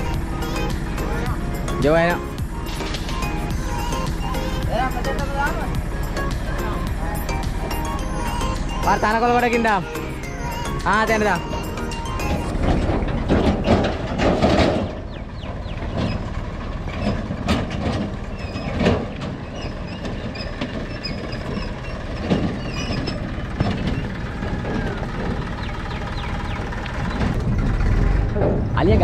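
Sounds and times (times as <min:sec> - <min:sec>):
tractor engine running: 0:00.0 - 0:29.0
trailer knocking and rattling: 0:00.0 - 0:29.0.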